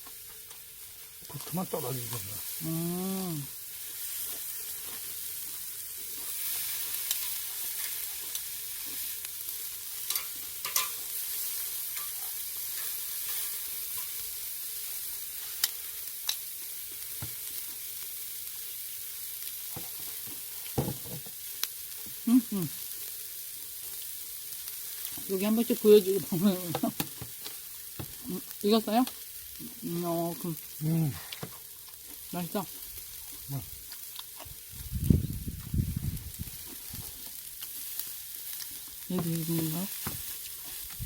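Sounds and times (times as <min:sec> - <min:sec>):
fat popping on coals: 0:00.0 - 0:41.0
meat sizzling on a grill: 0:00.0 - 0:41.0.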